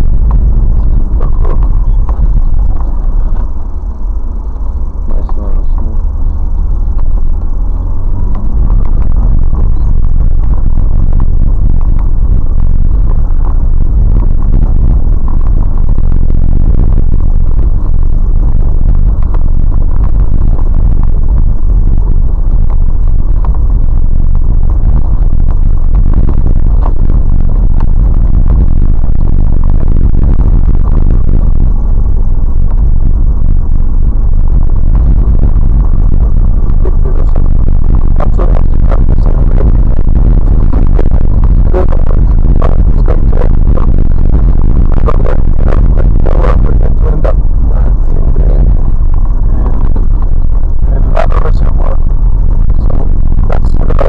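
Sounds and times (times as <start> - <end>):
vehicle rumbling on snowy track: 0.0 - 54.0.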